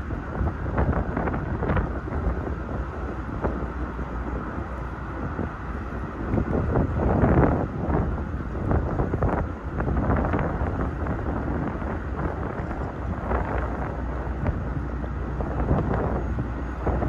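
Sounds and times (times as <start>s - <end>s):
low steady rumble: 0.0s - 17.0s
wind buffeting microphone: 0.0s - 17.0s.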